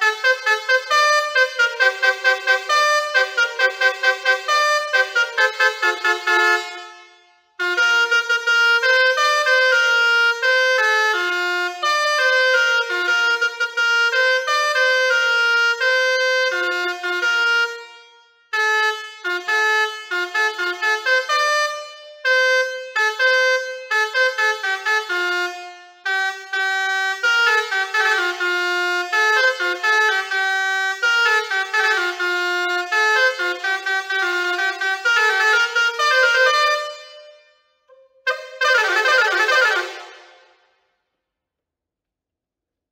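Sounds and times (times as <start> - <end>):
musical air horn playing melody: 0.0 - 40.9.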